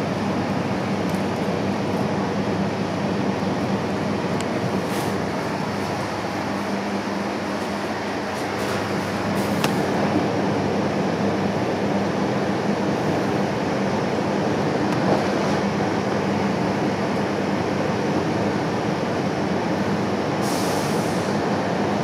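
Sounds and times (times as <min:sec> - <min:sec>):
passenger train running: 0:00.0 - 0:22.0.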